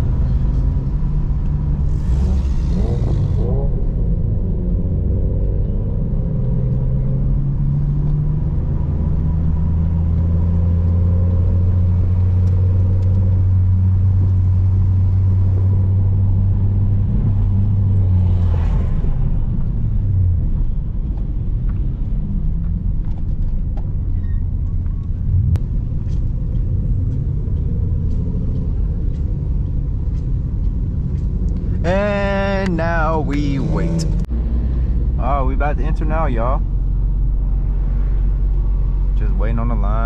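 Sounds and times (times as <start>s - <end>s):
car engine droning: 0.0s - 40.0s.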